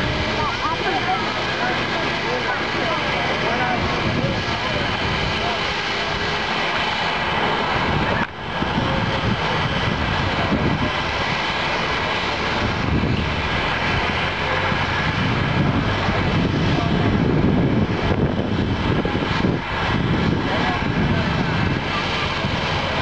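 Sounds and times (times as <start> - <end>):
high engine whine: 0.0 - 23.0
jet engines rushing: 0.0 - 23.0.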